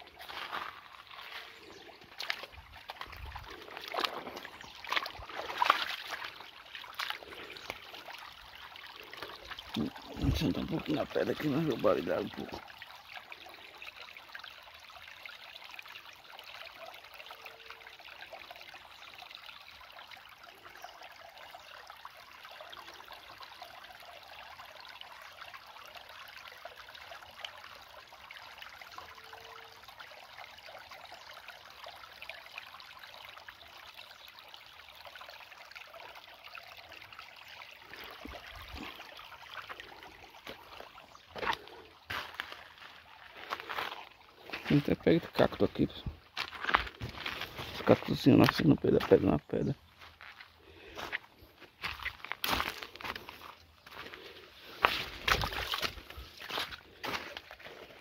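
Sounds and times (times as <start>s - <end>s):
creek water babbling over rocks: 0.0s - 58.0s.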